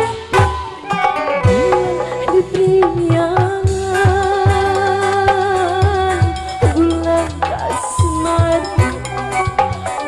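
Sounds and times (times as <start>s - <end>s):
hand drums playing dance rhythm: 0.0s - 10.0s
keyboard melody: 0.0s - 10.0s.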